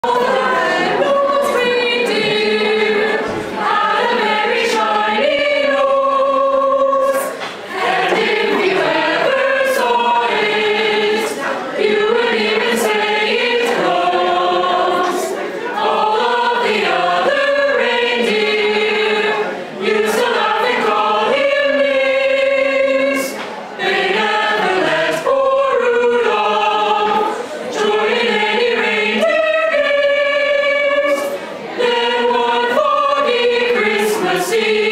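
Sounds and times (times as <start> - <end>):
mixed choir singing a cappella: 0.0 - 34.9.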